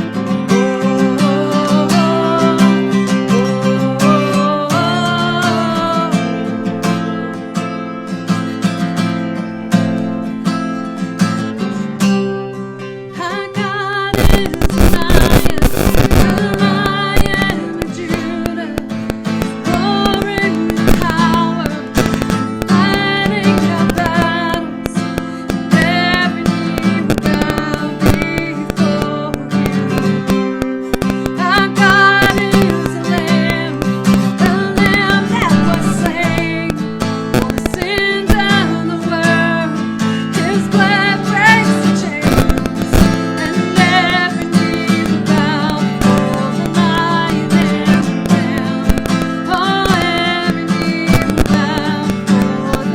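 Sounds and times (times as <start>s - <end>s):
person singing with vibrato: 0.0s - 7.5s, 13.0s - 52.9s
strummed acoustic guitar: 0.0s - 52.9s.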